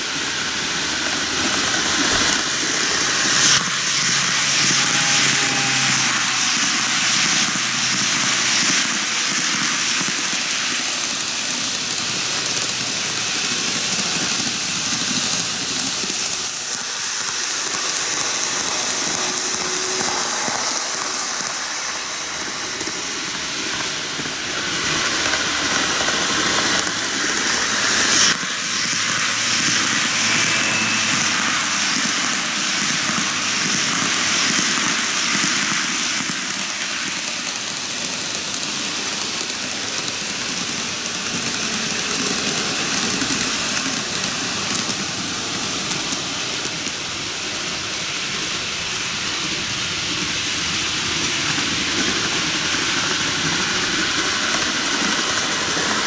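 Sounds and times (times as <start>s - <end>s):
model train motor whirring: 0.0s - 56.0s
model train wheels rolling on rail: 0.0s - 56.0s.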